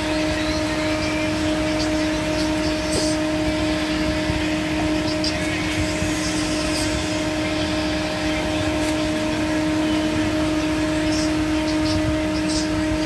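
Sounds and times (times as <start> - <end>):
low motor drone: 0.0 - 13.0.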